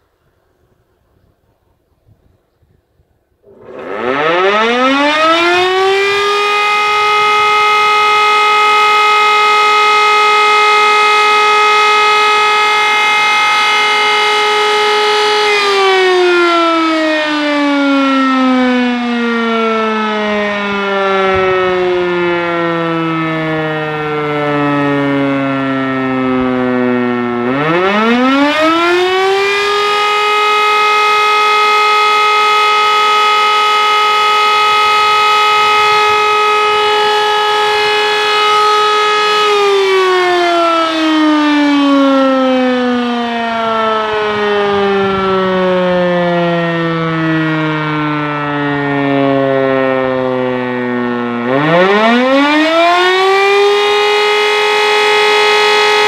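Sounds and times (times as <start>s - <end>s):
rotary siren wailing: 3.4s - 56.0s.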